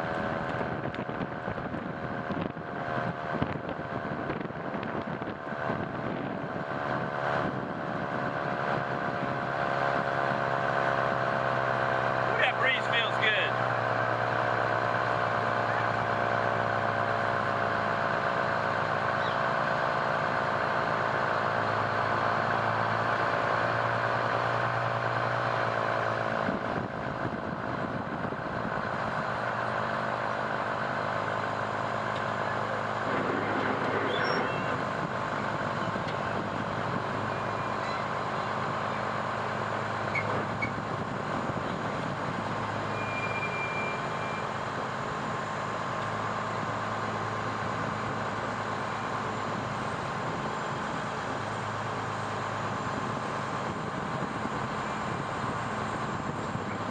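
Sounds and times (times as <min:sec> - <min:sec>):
fire truck engine running: 0:00.0 - 0:56.9.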